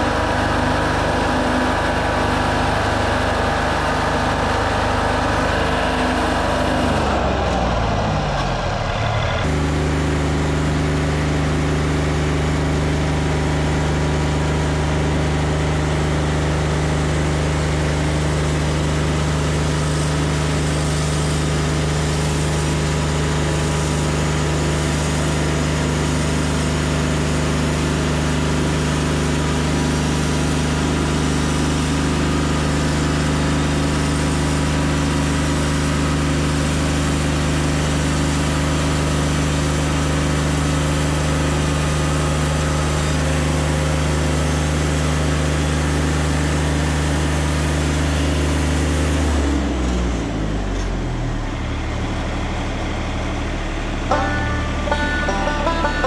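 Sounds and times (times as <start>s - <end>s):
engine hum: 0.0s - 56.0s.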